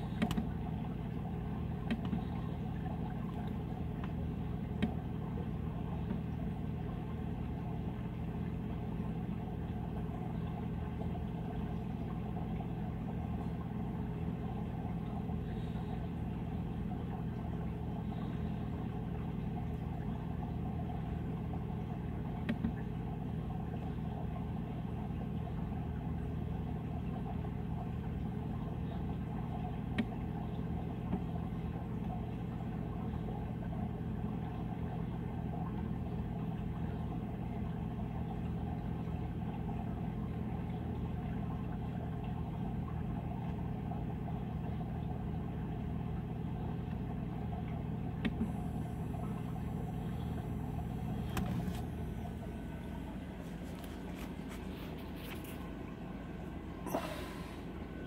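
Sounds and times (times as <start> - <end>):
aquarium equipment humming: 0.0 - 58.0.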